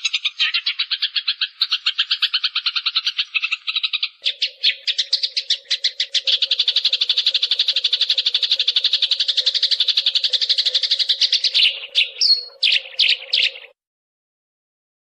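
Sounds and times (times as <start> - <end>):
sparrows chirping rapidly: 0.0 - 13.8.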